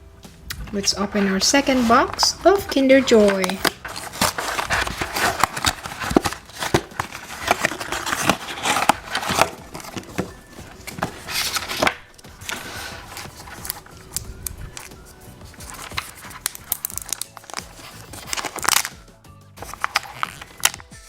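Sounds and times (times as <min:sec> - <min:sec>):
wrapper crinkling and tearing: 0:00.8 - 0:19.0, 0:19.6 - 0:20.9.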